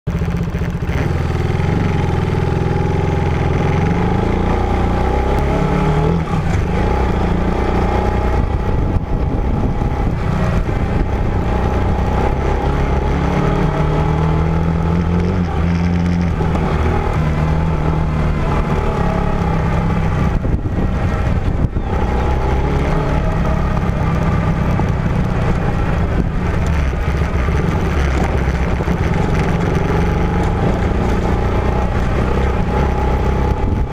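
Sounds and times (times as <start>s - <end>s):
off-road vehicle engine driving: 0.0s - 33.9s.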